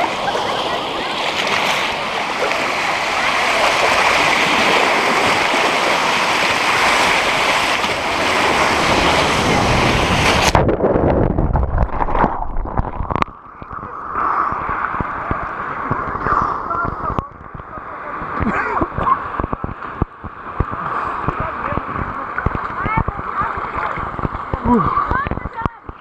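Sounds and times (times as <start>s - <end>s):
muffled underwater churning: 0.0s - 26.0s.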